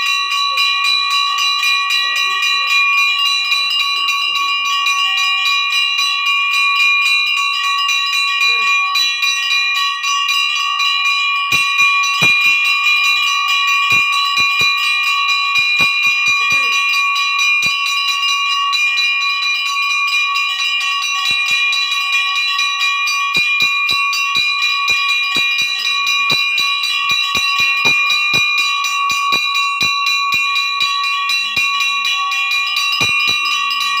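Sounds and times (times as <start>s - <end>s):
bell ringing: 0.0s - 34.0s.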